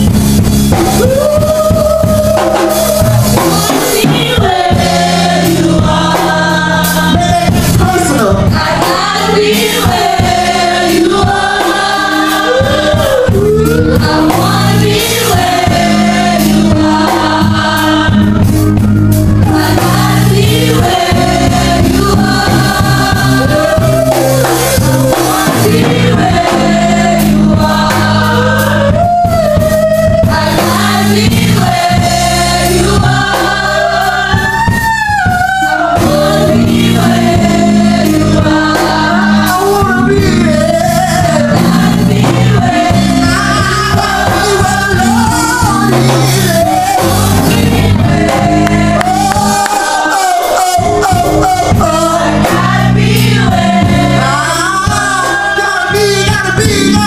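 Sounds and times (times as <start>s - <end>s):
gospel choir singing: 0.0s - 57.0s
sustained keyboard chords: 0.0s - 57.0s.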